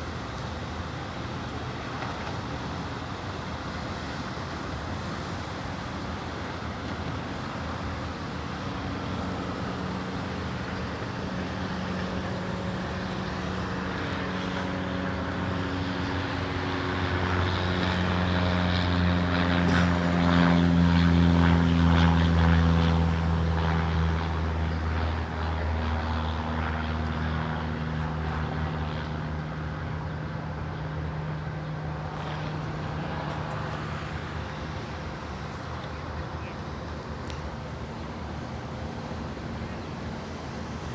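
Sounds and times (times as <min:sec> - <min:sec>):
aeroplane engine drone: 0:00.0 - 0:40.9.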